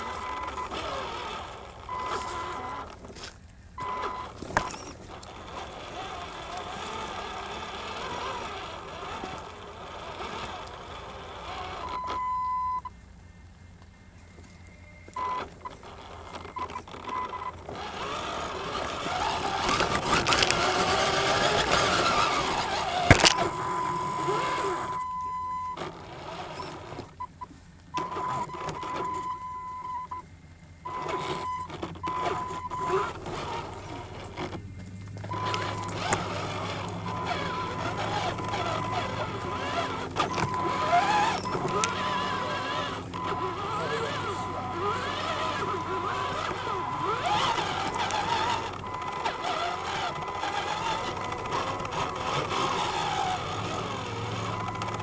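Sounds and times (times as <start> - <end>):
toy truck motor whining: 0.0 - 55.0.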